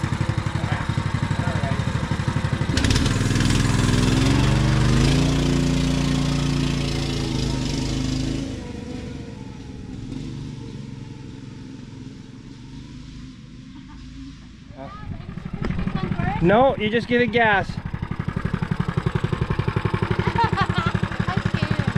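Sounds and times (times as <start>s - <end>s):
mini bike engine revving: 0.0s - 21.9s.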